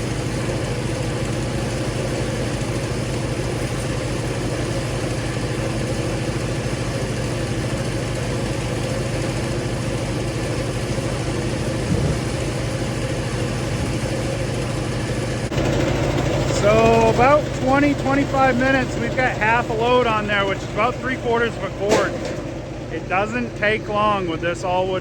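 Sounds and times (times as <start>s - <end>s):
log splitter engine running: 0.0s - 25.0s.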